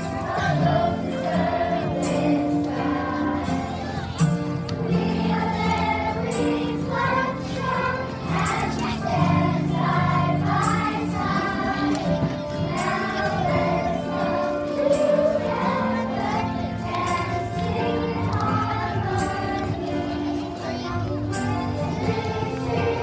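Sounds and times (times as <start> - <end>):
children's choir singing: 0.0 - 23.0
instrumental accompaniment: 0.0 - 23.0.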